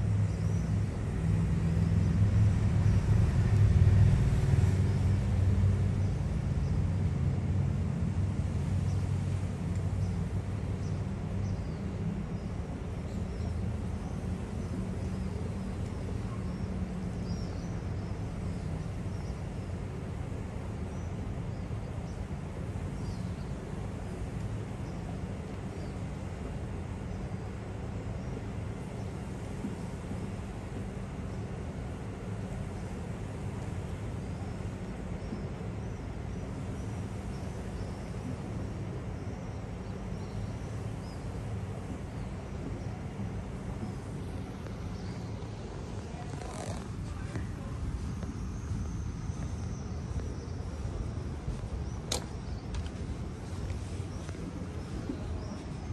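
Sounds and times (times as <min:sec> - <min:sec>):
low machinery hum: 0:00.0 - 0:55.9.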